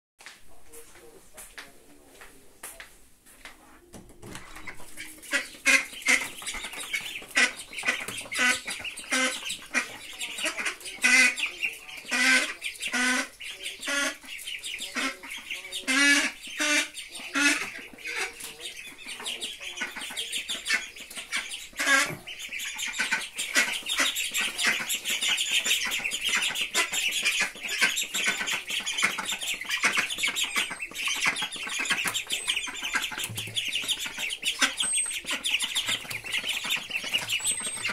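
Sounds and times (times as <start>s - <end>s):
ducklings peeping: 4.0s - 37.9s
duck quacking loudly: 4.6s - 37.9s.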